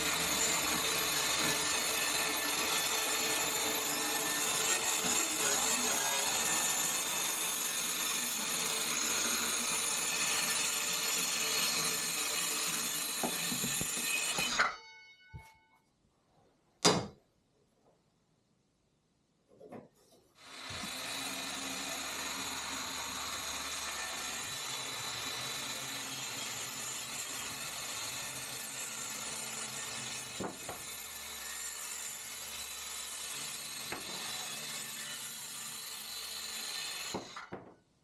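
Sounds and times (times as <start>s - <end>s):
power tool running: 0.0s - 14.6s, 20.4s - 37.4s.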